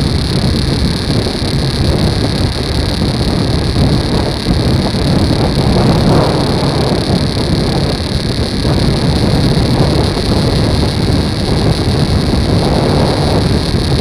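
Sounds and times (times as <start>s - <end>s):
motorcycle engine running: 0.0s - 14.0s
wind noise on microphone: 0.0s - 14.0s.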